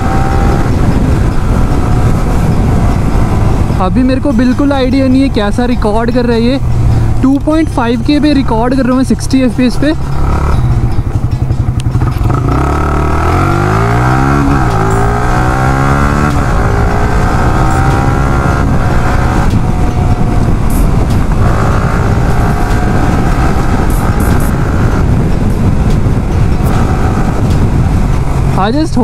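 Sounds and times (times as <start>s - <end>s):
motorcycle engine revving: 0.0s - 29.0s
wind rumble on microphone: 0.0s - 29.0s.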